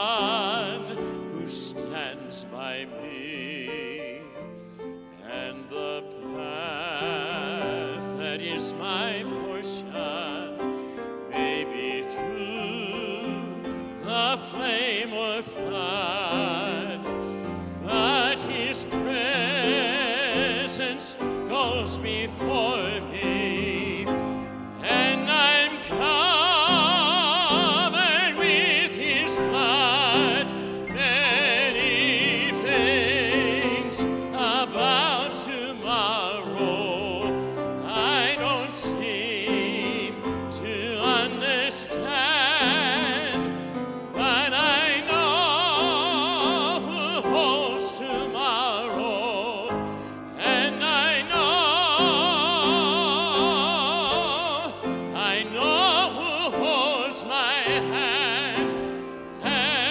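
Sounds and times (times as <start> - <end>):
grand piano: 0.0 - 59.9
man singing operatically: 0.0 - 59.9.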